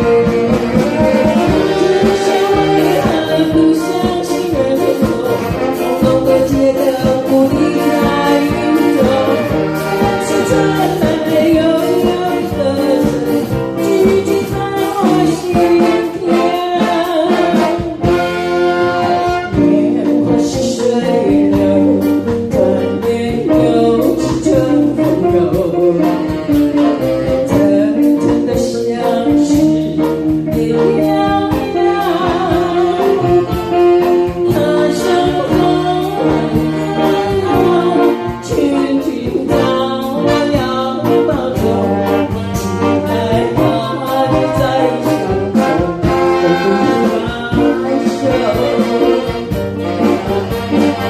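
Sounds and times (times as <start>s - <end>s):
horn-like melody: 0.0s - 20.1s, 25.3s - 27.8s, 31.2s - 51.0s
live band playing pop ballad: 0.0s - 51.0s
steady drumbeat: 0.0s - 51.0s.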